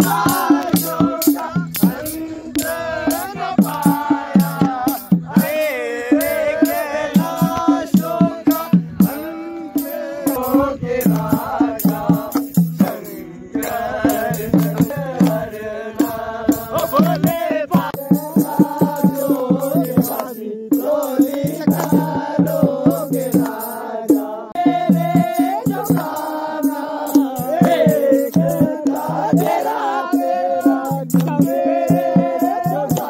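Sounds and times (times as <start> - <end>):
steady percussive beat: 0.0 - 33.0
voices singing a chant: 0.0 - 33.0.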